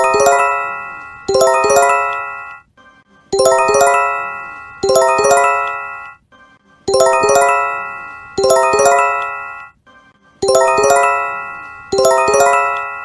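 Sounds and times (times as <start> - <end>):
electronic bell-like alert chime: 0.0 - 2.6, 3.4 - 6.2, 6.9 - 9.7, 10.4 - 13.0.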